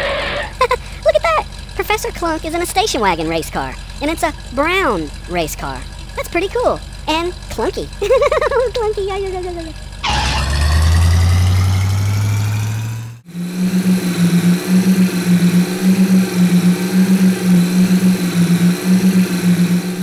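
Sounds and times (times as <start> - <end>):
truck engine running: 0.0 - 20.0
lumpy idling engine: 0.1 - 20.0.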